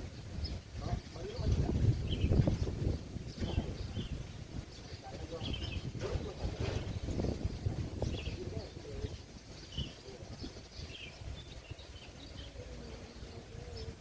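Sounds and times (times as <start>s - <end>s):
small birds chirping: 0.0s - 14.0s
wind rumble on microphone: 0.0s - 14.0s.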